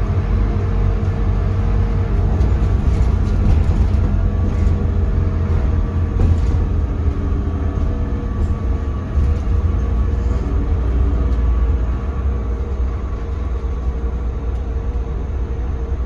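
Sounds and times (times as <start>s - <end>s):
bus diesel engine drone: 0.0s - 16.0s
road rumble: 0.0s - 16.0s.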